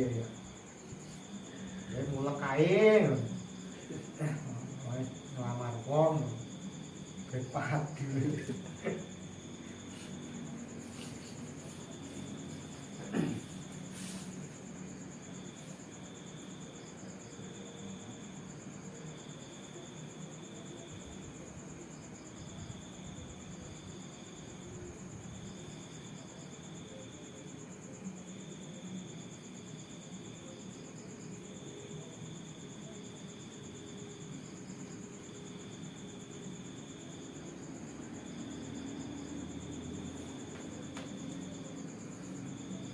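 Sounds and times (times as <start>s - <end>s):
high-pitched insect trill: 0.0s - 42.9s
lower insect trill: 0.0s - 42.9s.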